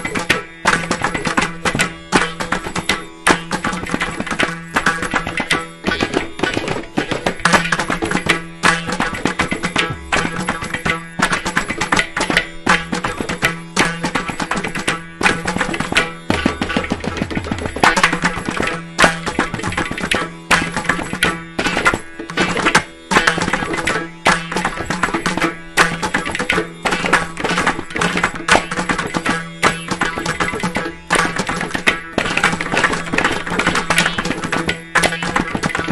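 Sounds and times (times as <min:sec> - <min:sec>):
percussion ensemble fast rhythm: 0:00.0 - 0:35.9.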